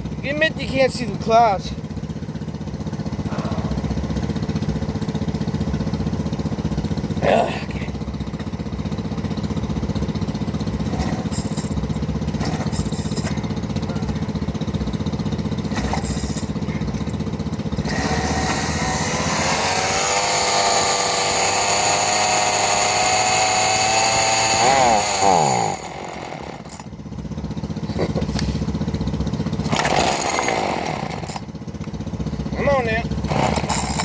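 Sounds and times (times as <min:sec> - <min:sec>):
chainsaw engine idling and revving: 0:00.0 - 0:34.0.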